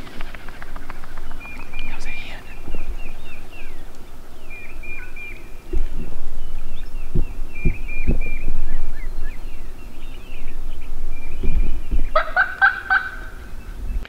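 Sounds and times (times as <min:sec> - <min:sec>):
low thumps near microphone: 0:00.0 - 0:12.4
small songbirds chirping: 0:00.0 - 0:14.0.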